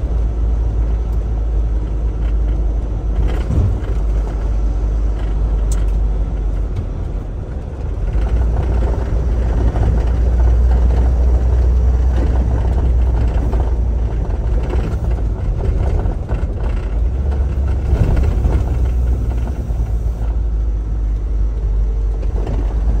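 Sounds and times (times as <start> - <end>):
diesel engine low rumble: 0.0 - 23.0
road noise: 0.0 - 23.0.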